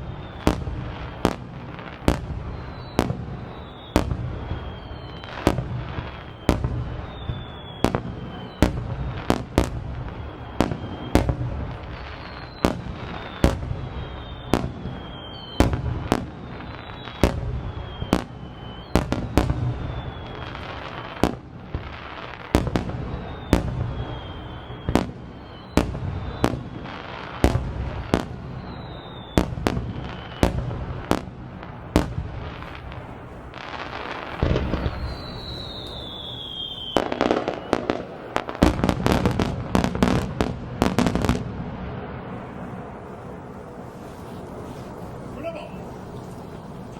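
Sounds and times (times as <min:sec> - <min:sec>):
falling firework whistles: 0:00.0 - 0:46.9
fireworks bangs: 0:00.0 - 0:46.9.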